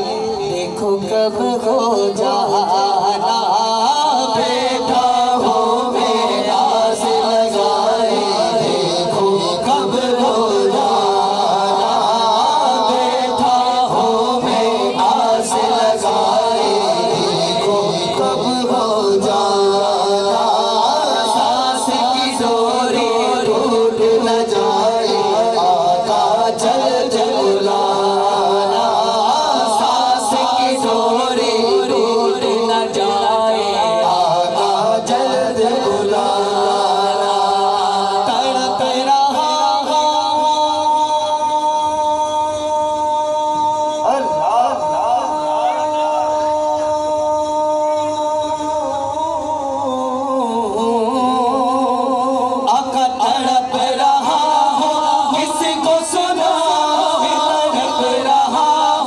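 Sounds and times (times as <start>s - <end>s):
men singing without instruments: 0.0s - 59.0s.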